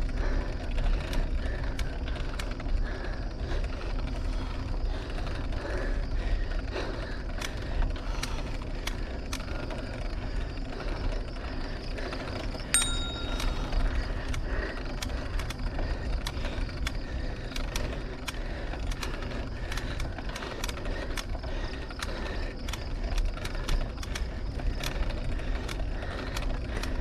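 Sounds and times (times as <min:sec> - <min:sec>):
bicycle rumble: 0:00.0 - 0:27.0
bike clicks and creaks: 0:00.0 - 0:27.0.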